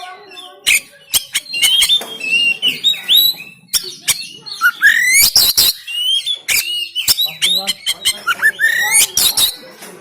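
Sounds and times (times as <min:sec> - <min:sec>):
bird singing clicks and whistles: 0:00.6 - 0:09.6.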